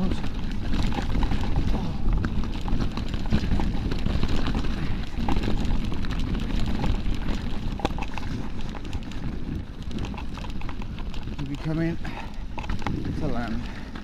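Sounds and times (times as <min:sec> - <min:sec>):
bike clicking and clattering: 0:00.0 - 0:14.0
bike tyres rumbling over rock: 0:00.0 - 0:14.0
wind buffeting microphone: 0:00.0 - 0:14.0.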